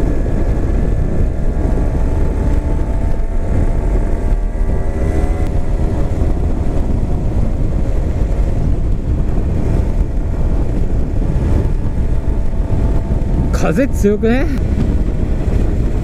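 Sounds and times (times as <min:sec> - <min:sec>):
two-stroke motorcycle engine running: 0:00.0 - 0:16.0
wind on microphone: 0:00.0 - 0:16.0.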